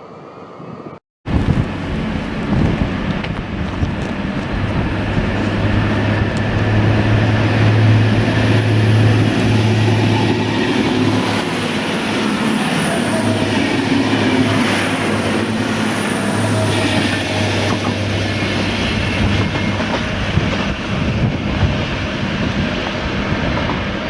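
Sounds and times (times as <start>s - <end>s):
rolling rail noise: 0.0s - 24.0s
train engine hum: 0.0s - 24.0s.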